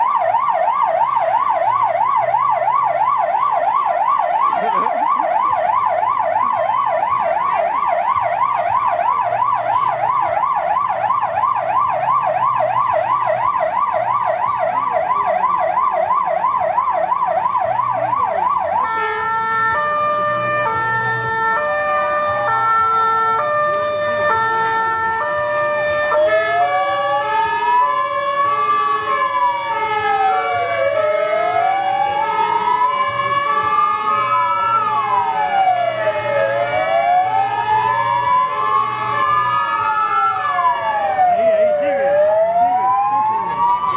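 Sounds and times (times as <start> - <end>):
fire engine siren yelp: 0.0 - 43.9
stepped high-low siren tone: 0.0 - 43.9
truck engines rumbling: 0.0 - 43.9
wailing siren: 0.0 - 43.9.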